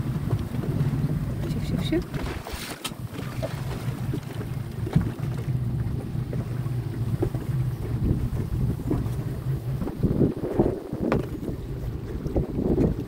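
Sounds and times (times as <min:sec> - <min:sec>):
speedboat engine running: 0:00.0 - 0:13.0
wind buffeting microphone: 0:00.0 - 0:13.0.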